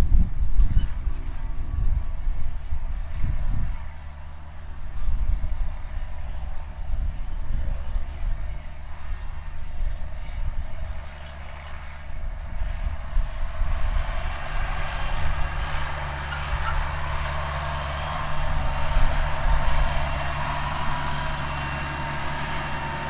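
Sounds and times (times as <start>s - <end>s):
tractor engine running under load: 0.0s - 23.0s.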